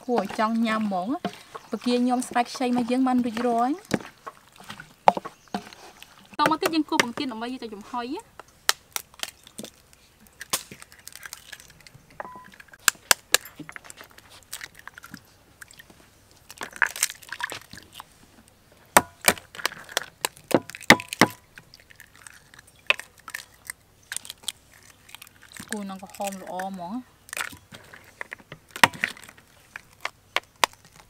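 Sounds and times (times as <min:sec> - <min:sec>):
eggshells cracking: 0:00.0 - 0:31.0.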